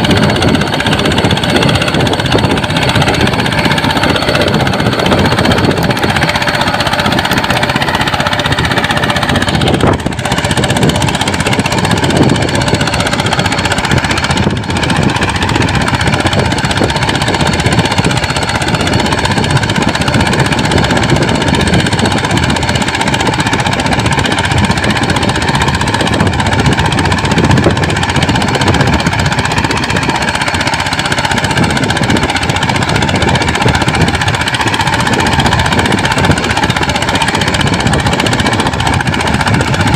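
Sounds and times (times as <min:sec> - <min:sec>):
mini tractor engine chugging: 0:00.0 - 0:39.9.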